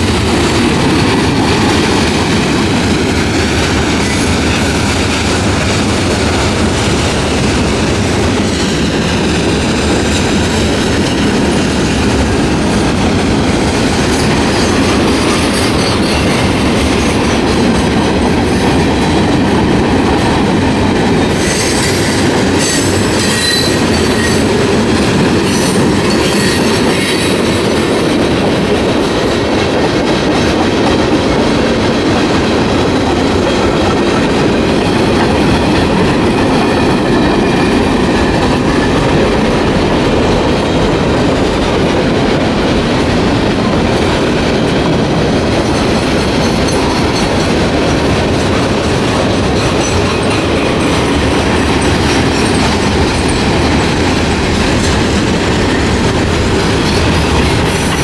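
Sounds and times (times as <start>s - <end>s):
rail-joint clacking: 0.0s - 58.0s
train wheels rumbling on rail: 0.0s - 58.0s.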